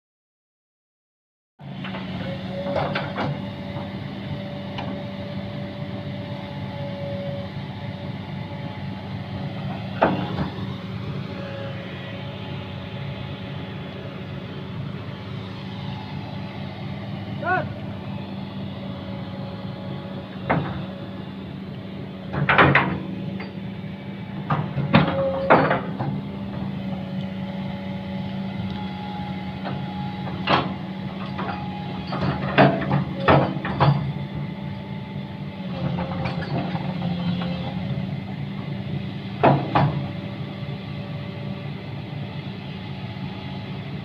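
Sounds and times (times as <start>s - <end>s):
engine running: 1.6s - 44.0s.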